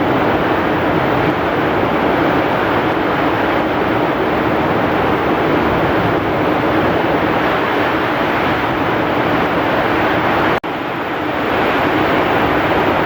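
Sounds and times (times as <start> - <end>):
heavy rain: 0.0 - 13.0
strong wind: 0.0 - 13.0.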